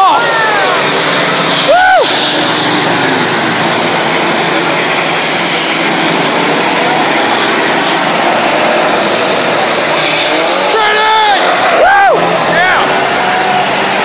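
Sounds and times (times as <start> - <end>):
racing engines and tyre noise: 0.0 - 14.0.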